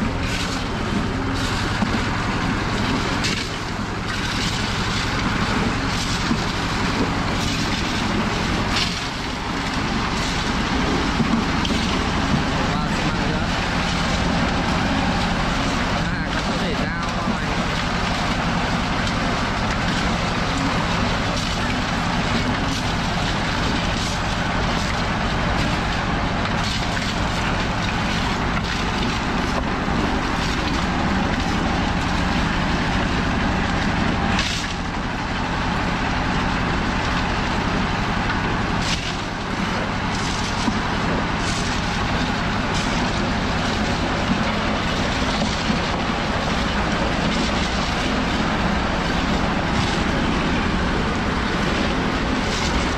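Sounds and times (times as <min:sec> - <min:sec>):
concrete mixer churning: 0:00.0 - 0:52.9.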